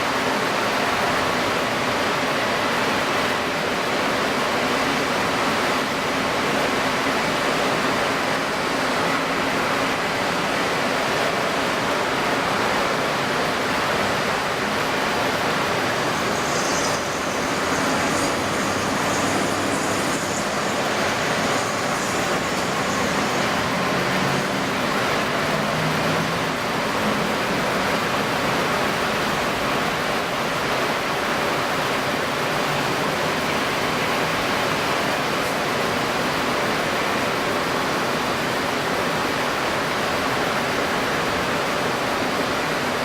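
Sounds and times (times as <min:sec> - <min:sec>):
strong wind rushing: 0:00.0 - 0:39.2
choppy water: 0:00.0 - 0:43.0
faint high whine: 0:00.0 - 0:43.0.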